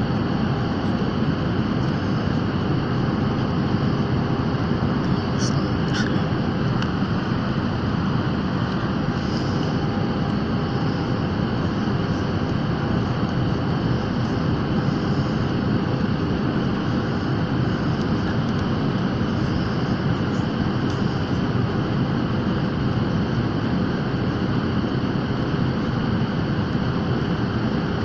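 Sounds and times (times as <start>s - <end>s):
airplane engine drone: 0.0s - 28.0s
faint steady hum: 0.0s - 28.0s.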